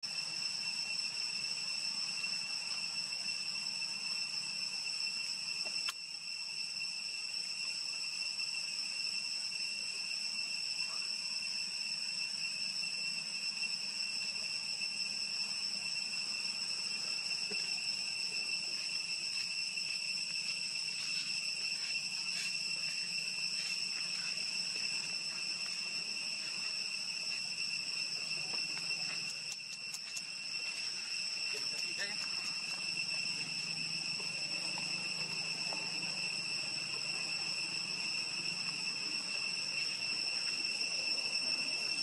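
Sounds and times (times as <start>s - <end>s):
high-pitched insect drone: 0.0s - 42.0s.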